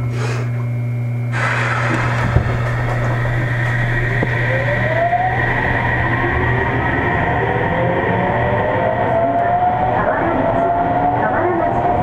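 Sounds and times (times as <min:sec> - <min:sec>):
steady low hum: 0:00.0 - 0:12.0
train inverter whine rising: 0:00.6 - 0:12.0.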